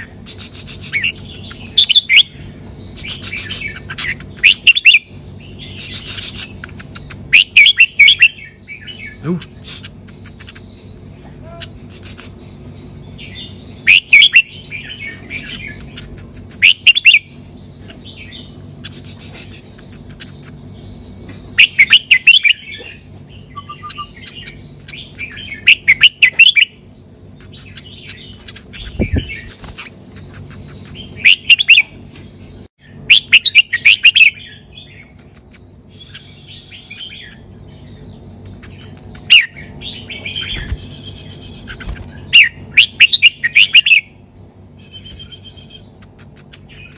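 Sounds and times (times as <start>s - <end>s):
bird singing warbling phrases: 0.0s - 46.9s.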